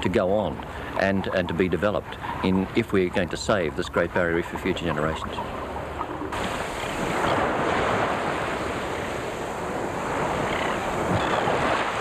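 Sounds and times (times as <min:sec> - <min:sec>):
surf: 0:00.0 - 0:12.0
wind: 0:00.0 - 0:12.0.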